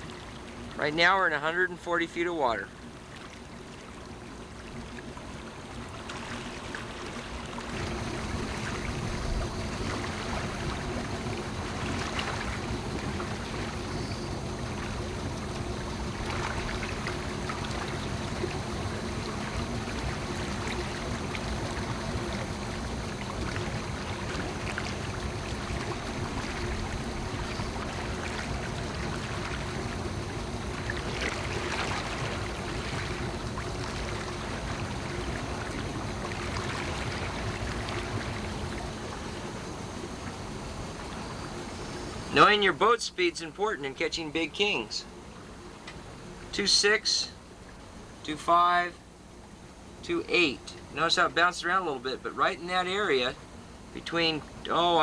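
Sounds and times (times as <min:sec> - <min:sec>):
boat motor humming: 0:00.0 - 0:55.0
water rushing along hull: 0:00.0 - 0:55.0.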